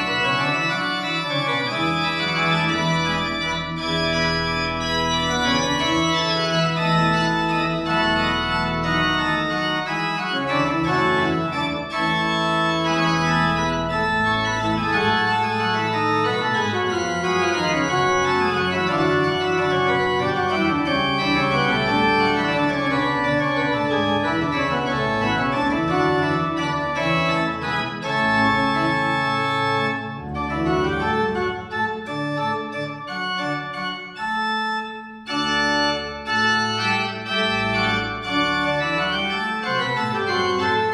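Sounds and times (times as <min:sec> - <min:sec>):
church organ playing chords: 0:00.0 - 0:40.9.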